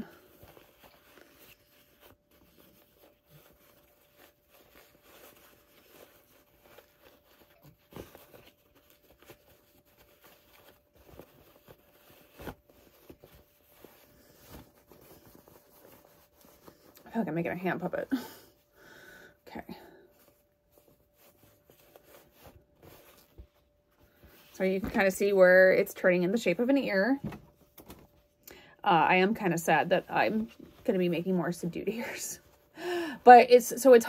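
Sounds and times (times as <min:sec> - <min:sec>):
fabric rustling and rubbing: 0:00.0 - 0:18.8, 0:19.4 - 0:34.0.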